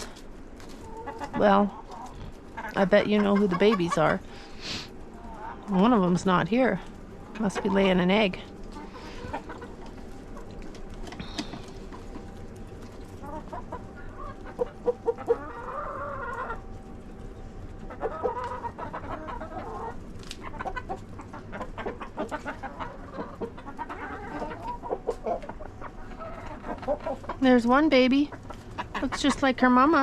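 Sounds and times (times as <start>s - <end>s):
chickens clucking and calling: 0.0s - 30.0s.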